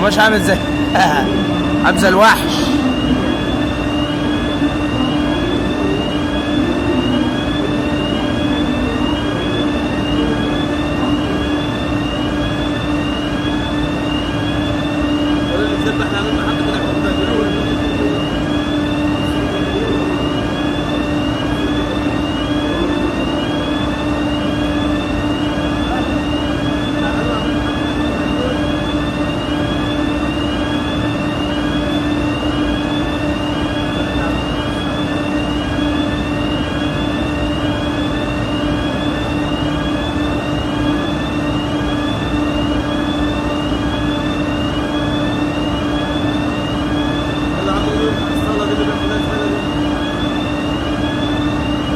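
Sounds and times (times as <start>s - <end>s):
fire alarm rising sweep: 0.0s - 51.9s.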